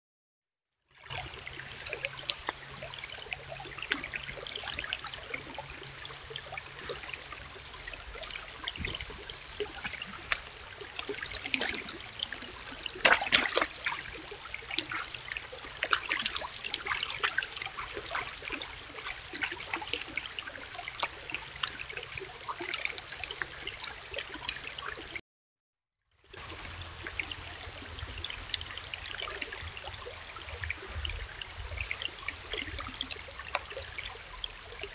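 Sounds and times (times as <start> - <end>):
stream babbling over stones: 1.0 - 25.2, 26.3 - 34.9.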